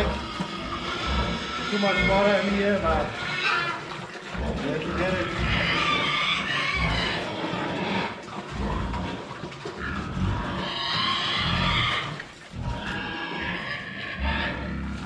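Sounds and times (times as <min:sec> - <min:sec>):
farm animal hoarse cries: 0:00.0 - 0:15.0.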